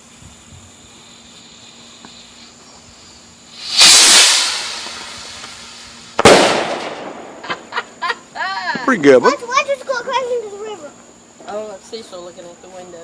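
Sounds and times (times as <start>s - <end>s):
firework rocket hissing: 0.0s - 12.1s.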